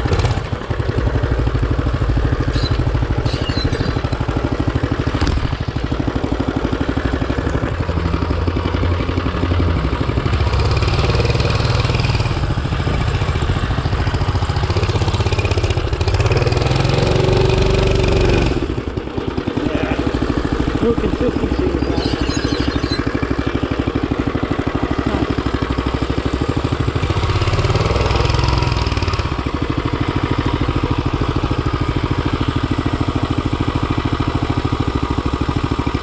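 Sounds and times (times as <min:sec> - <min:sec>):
mini bike engine running rough: 0:00.0 - 0:36.0.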